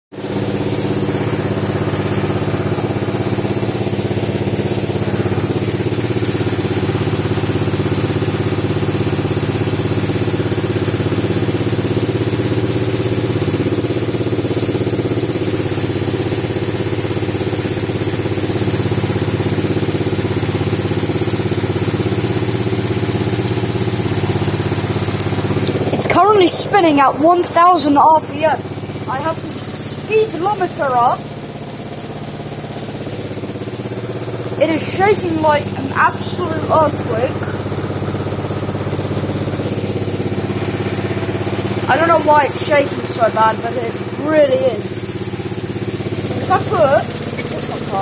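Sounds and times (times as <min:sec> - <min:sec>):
washing machine rattling: 0:00.1 - 0:48.0
washing machine spinning: 0:00.1 - 0:48.0.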